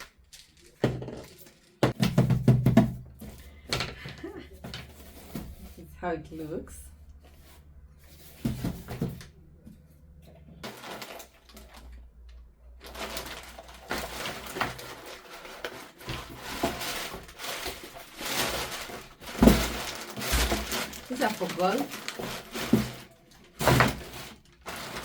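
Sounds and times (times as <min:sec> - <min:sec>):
packaging rustling and crinkling: 0:00.0 - 0:05.9, 0:07.1 - 0:25.0.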